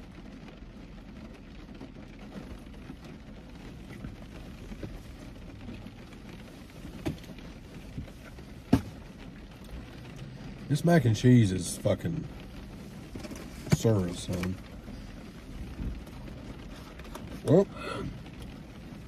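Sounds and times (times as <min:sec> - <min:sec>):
rain on a car roof: 0:00.0 - 0:19.0.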